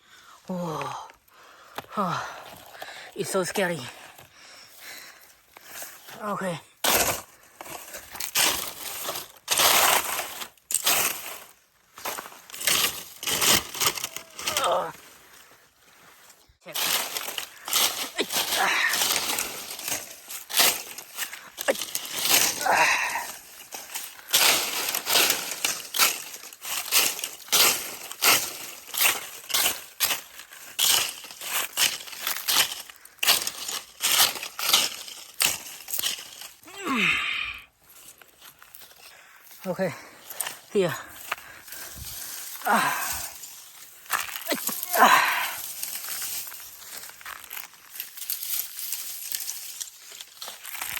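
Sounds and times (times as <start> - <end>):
crunching and rustling leaf litter: 6.2 - 37.1, 37.8 - 50.9
hands digging through dry leaves: 6.2 - 37.1, 37.8 - 50.9.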